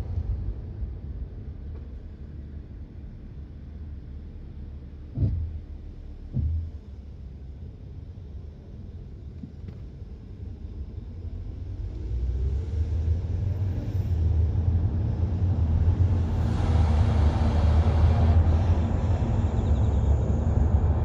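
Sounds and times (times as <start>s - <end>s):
car rumbling drone while driving: 0.0s - 21.0s.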